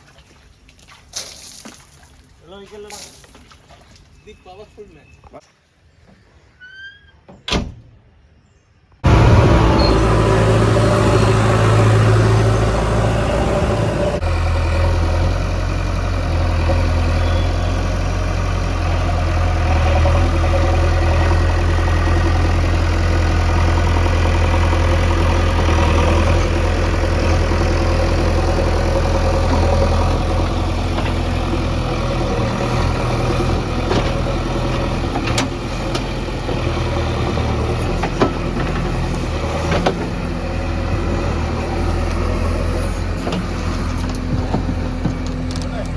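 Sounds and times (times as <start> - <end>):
diesel engine running under load: 9.0 - 45.9.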